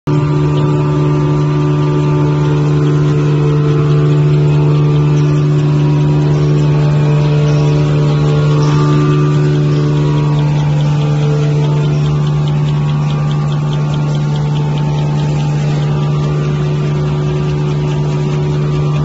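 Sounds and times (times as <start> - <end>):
machine humming: 0.1 - 19.0.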